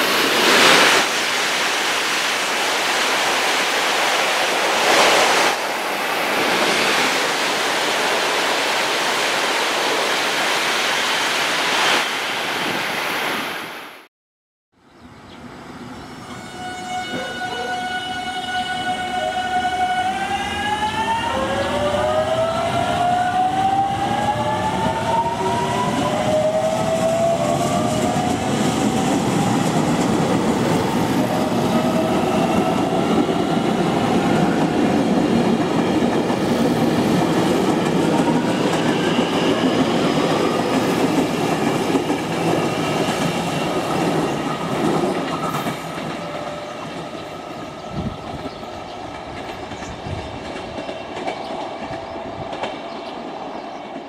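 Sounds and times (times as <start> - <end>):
train running on rails: 0.0 - 14.0, 15.0 - 54.0.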